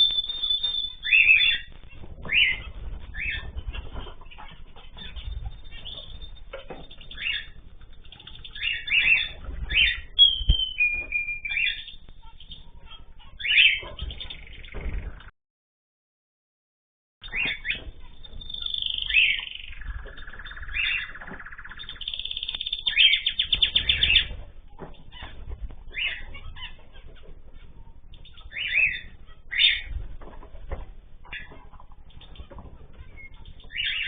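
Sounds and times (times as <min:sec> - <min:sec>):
caged birds chirping: 0:00.0 - 0:15.3, 0:17.2 - 0:34.0.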